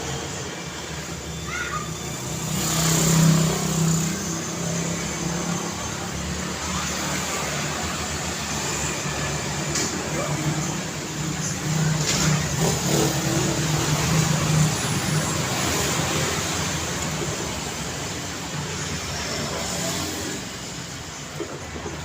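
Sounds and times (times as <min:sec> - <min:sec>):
tyre noise and engine hum: 0:00.0 - 0:22.0.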